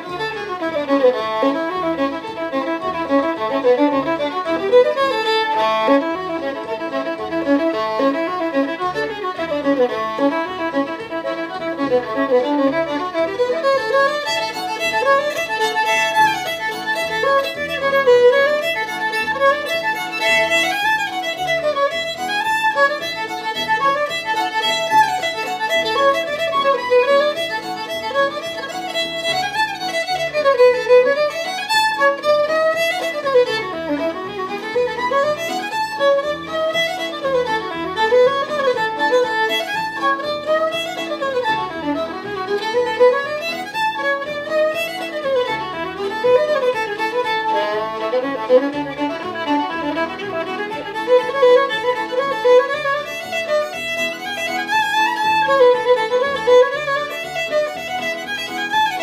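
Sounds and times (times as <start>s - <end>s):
solo fiddle playing: 0.0s - 59.0s.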